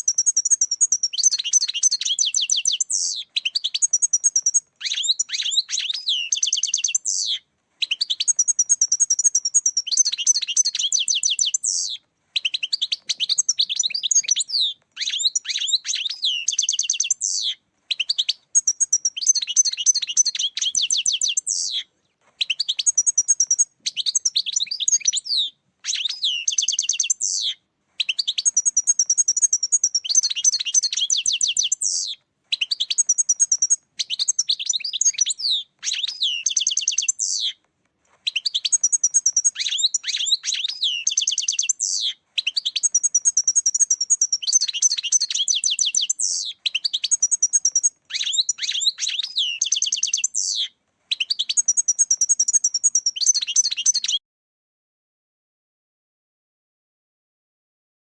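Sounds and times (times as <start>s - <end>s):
goldfinch twittering song: 0.0s - 37.6s, 38.3s - 54.2s.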